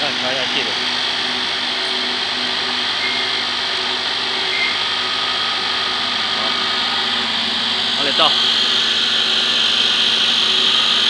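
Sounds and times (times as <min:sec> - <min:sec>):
grinding machine hum and hiss: 0:00.0 - 0:11.0.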